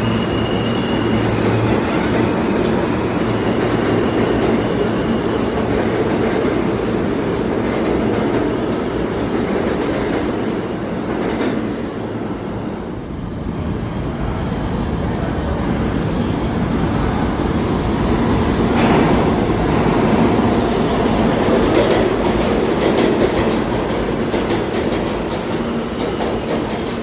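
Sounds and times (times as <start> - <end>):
train wheels rumbling and clicking: 0.0 - 12.6, 17.9 - 27.0.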